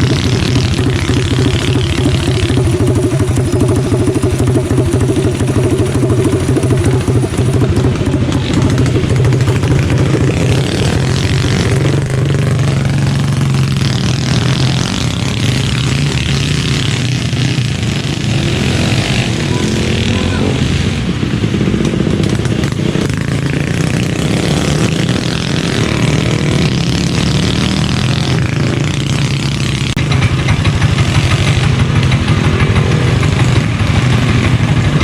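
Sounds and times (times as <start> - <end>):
minibike engine at high revs: 0.0 - 35.0.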